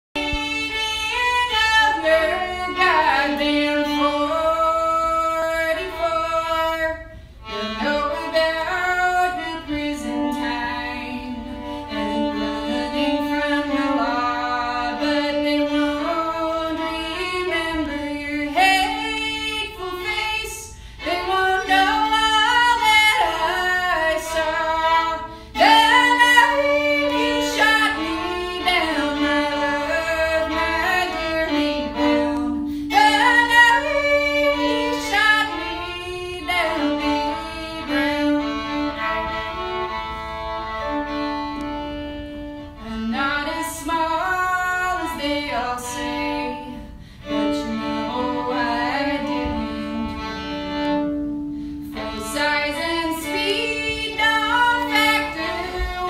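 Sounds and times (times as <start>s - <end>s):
woman singing: 0.2s - 39.8s, 42.8s - 50.5s, 51.8s - 56.0s
fiddle sustained notes: 0.2s - 56.0s.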